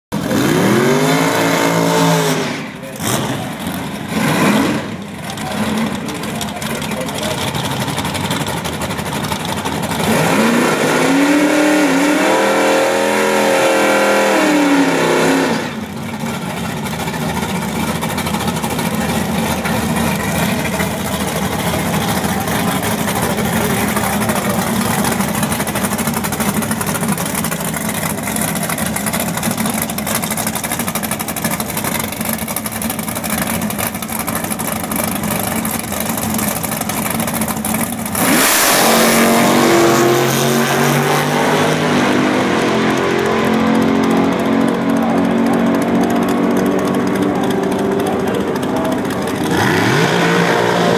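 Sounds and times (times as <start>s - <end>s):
car engine revving: 0.1s - 50.9s
car engine idling: 2.6s - 12.1s, 14.4s - 50.9s.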